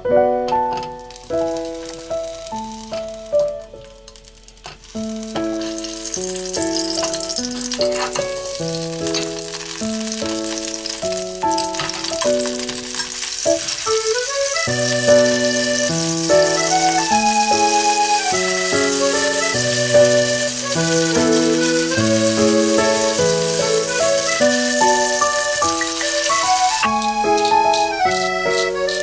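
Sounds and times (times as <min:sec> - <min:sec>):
light background music: 0:00.0 - 0:29.0
tomatoes sizzling in oil: 0:00.7 - 0:29.0.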